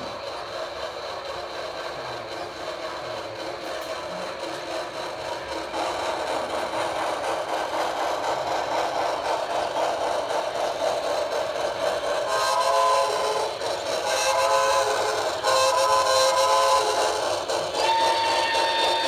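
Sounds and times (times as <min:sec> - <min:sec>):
model train whirring rumble: 0:00.0 - 0:19.0.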